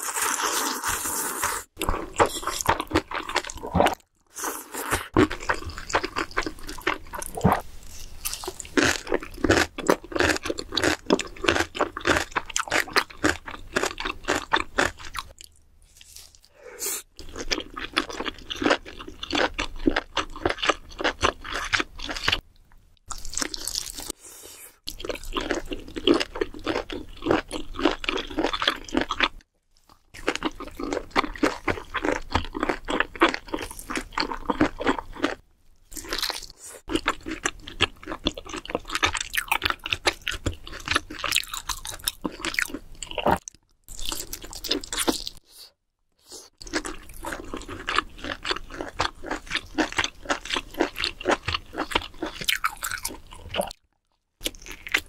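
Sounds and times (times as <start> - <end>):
person chewing food: 0.0 - 22.4, 23.0 - 55.0.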